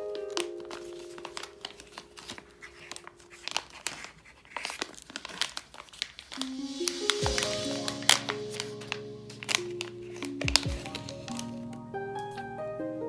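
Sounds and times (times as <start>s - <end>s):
soft background music: 0.0s - 4.1s, 6.3s - 13.0s
plastic packaging crinkling: 0.0s - 12.5s.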